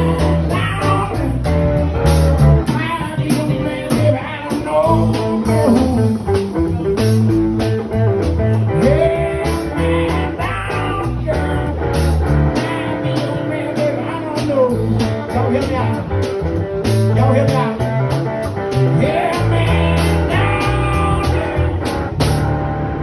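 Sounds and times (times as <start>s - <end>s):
bass line: 0.0s - 23.0s
drums: 0.0s - 23.0s
lead guitar with bent notes: 0.0s - 23.0s.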